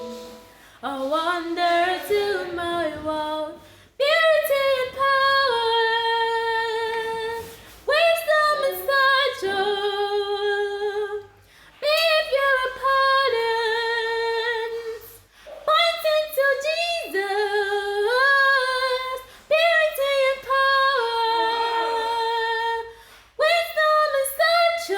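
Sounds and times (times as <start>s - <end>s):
woman singing a cappella: 0.0s - 24.9s.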